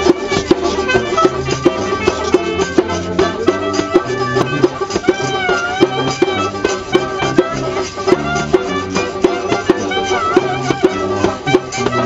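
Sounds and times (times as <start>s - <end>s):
banjo melody: 0.0s - 12.0s
hand drum beat: 0.0s - 12.0s.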